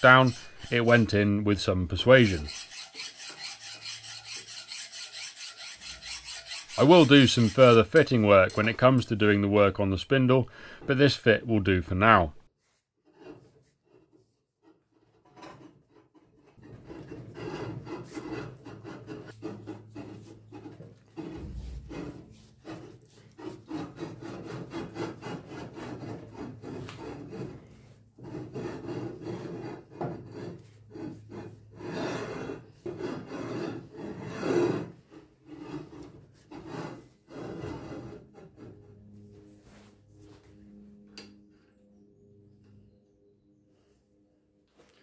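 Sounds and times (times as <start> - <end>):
metal-on-metal scraping: 0.0 - 9.5, 14.2 - 41.4.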